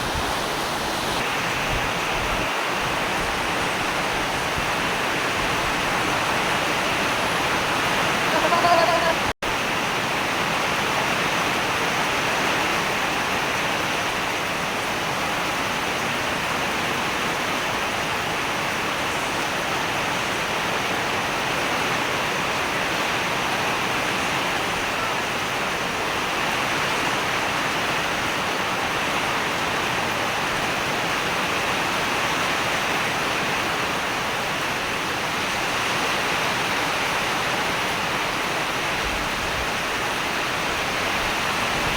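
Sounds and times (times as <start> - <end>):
rain falling steadily: 0.0 - 41.9.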